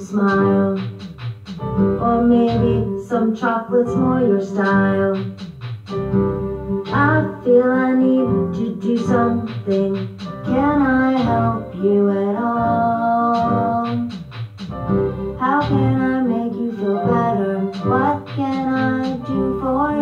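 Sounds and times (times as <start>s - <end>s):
woman singing: 0.0s - 1.0s, 2.0s - 5.4s, 6.9s - 14.1s, 15.4s - 20.0s
instrumental backing: 0.0s - 20.0s.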